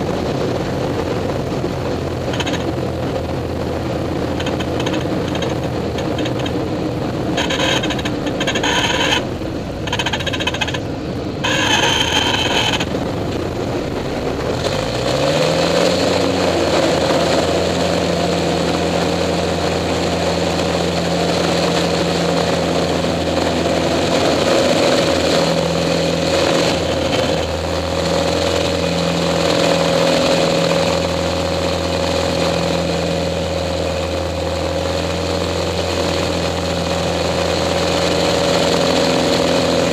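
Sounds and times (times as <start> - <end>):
plane engine and propeller: 0.0 - 39.9.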